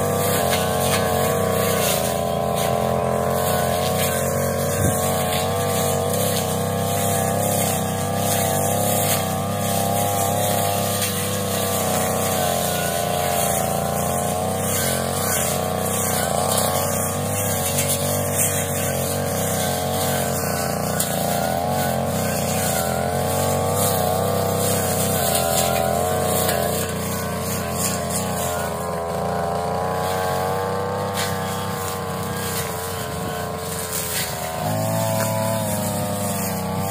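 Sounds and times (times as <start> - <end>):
brush cutter engine cutting grass: 0.0 - 36.9.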